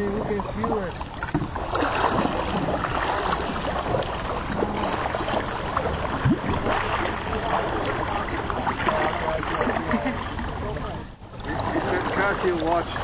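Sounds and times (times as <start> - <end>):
paddles splashing water: 0.0 - 13.0.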